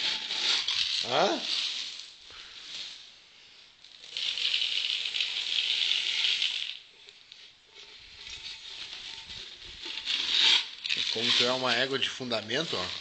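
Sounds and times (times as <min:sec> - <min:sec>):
corn kernels rattling in metal can: 0:00.0 - 0:02.1, 0:03.8 - 0:13.0.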